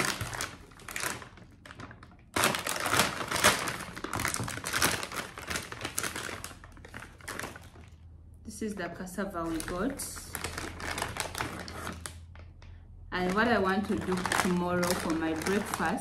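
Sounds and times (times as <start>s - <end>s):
plastic bag crinkling: 0.0s - 8.1s, 9.3s - 16.0s.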